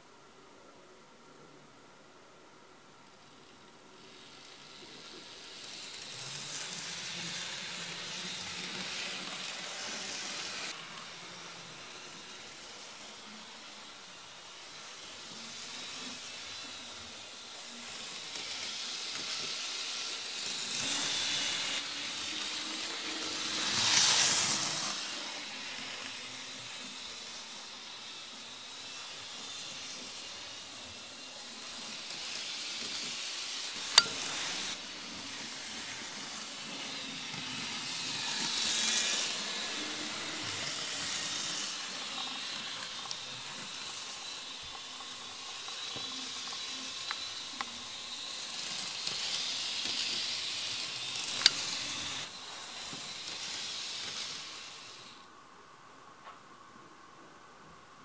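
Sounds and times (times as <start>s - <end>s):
model train motor whirring: 3.4s - 55.3s.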